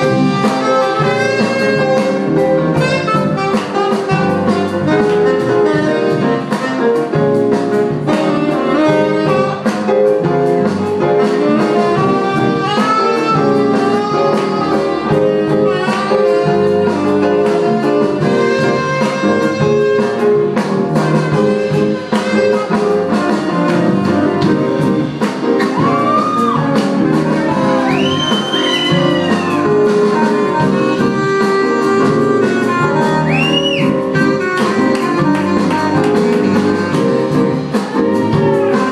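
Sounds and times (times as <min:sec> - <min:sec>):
drum kit steady beat: 0:00.0 - 0:38.9
saxophone section playing: 0:00.0 - 0:38.9.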